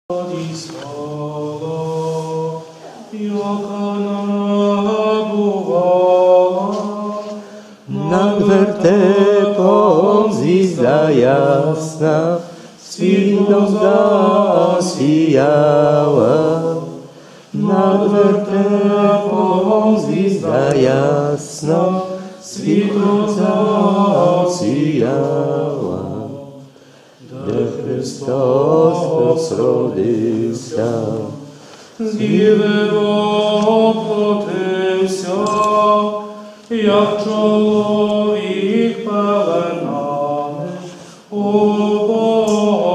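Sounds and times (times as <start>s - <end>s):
group singing unaccompanied: 0.1s - 42.9s.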